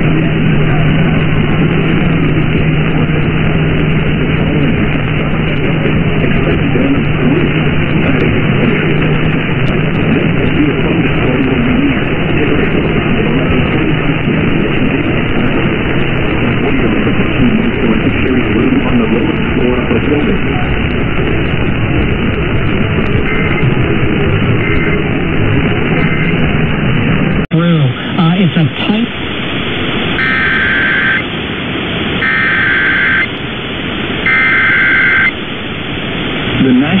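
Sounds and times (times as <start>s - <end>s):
low hum: 0.0s - 37.0s
radio static hiss: 0.0s - 37.0s.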